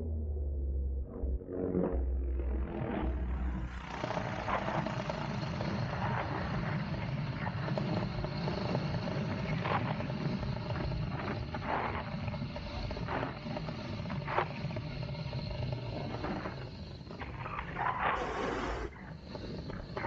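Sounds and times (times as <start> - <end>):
paramotor engine and propeller: 1.2 - 20.0.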